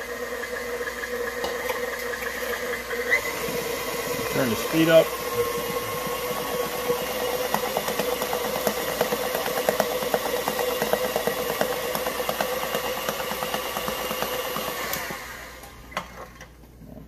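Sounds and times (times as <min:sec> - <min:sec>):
stand mixer motor hum: 0:00.0 - 0:16.6
mixer beater ticking: 0:00.1 - 0:15.8.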